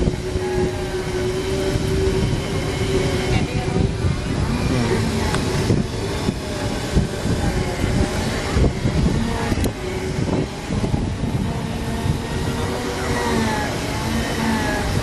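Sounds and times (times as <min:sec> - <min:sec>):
electric motors whining: 0:00.0 - 0:15.0
wind on microphone: 0:00.0 - 0:15.0.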